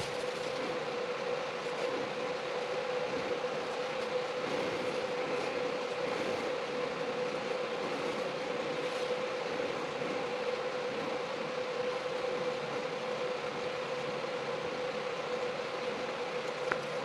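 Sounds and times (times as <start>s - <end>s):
shop machine hissing and humming: 0.0s - 17.0s.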